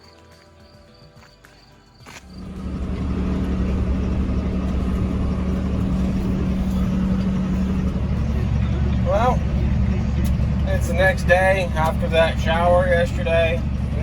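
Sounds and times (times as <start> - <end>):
vehicle engine humming: 2.1 - 14.0.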